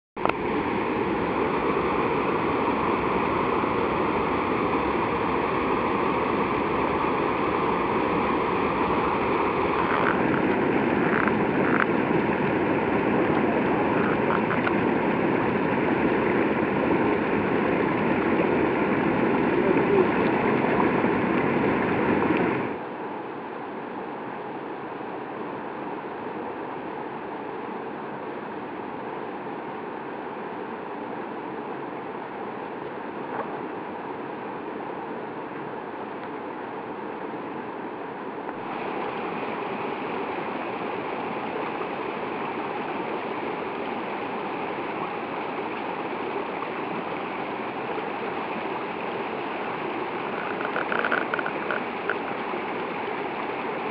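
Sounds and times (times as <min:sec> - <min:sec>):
white water rushing over rocks: 0:00.2 - 0:53.9.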